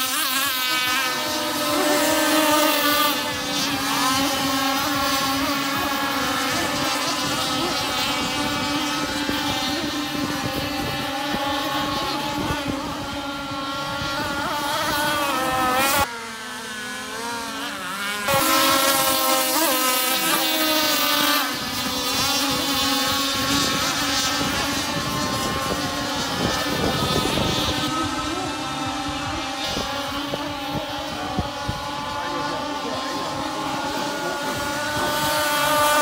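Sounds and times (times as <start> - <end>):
model boat motors whining: 0.0 - 36.0.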